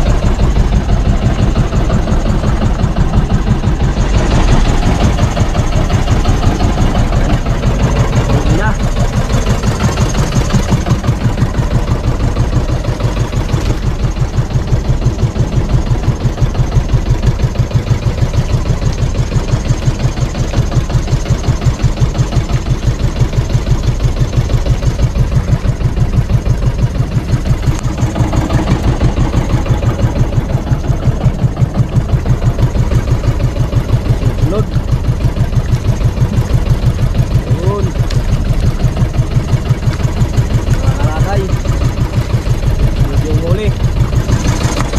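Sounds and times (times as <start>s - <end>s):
small boat engine running: 0.0s - 44.9s.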